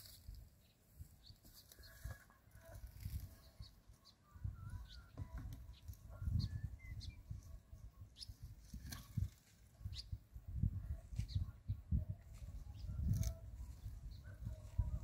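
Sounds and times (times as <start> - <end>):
birds chirping and whistling: 0.6 - 15.0.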